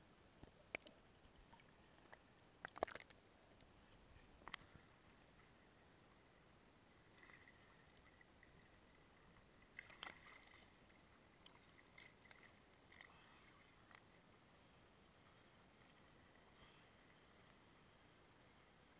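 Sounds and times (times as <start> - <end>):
faint water lapping: 0.6 - 18.9.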